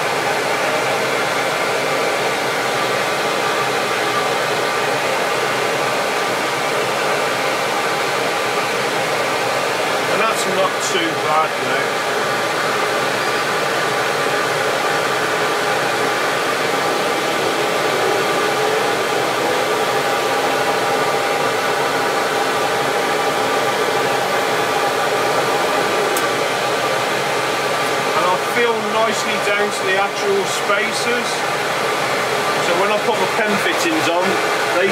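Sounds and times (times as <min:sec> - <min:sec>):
dust extractor running: 0:00.0 - 0:34.9
wood lathe spinning: 0:00.0 - 0:34.9.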